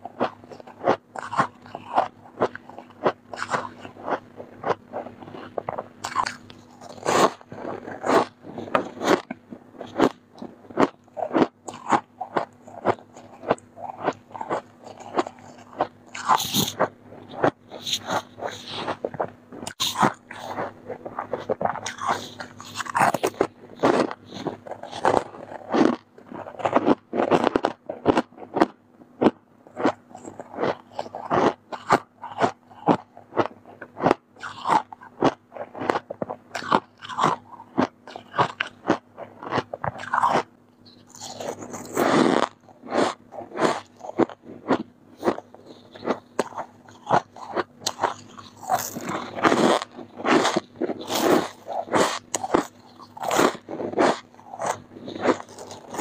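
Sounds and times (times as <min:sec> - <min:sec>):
frost crunching being chewed: 0:00.0 - 0:56.0.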